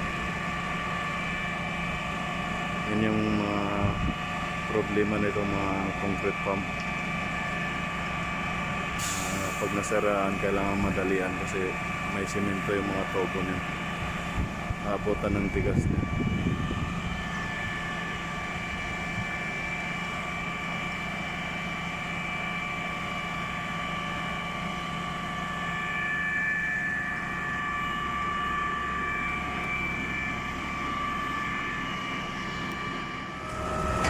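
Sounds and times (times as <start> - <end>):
high-pitched pump whine: 0.0 - 34.0
pump truck engine hum: 0.0 - 34.0.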